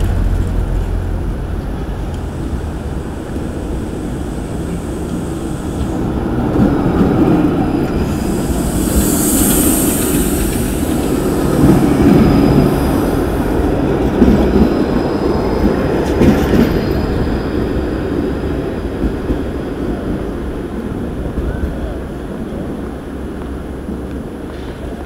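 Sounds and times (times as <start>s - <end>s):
tram wheels rumbling and clacking: 0.0s - 25.0s.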